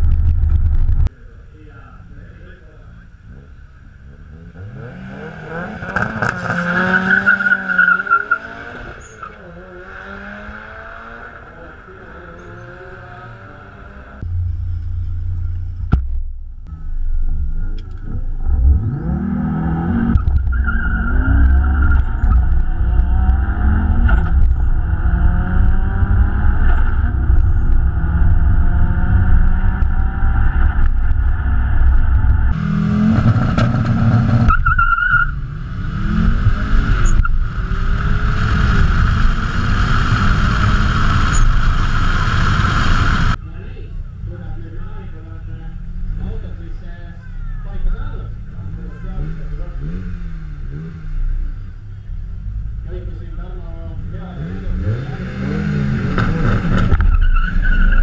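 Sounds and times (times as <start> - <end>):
car engine accelerating through gears: 4.1 - 15.9, 16.7 - 43.4, 48.1 - 52.9, 53.9 - 58.0.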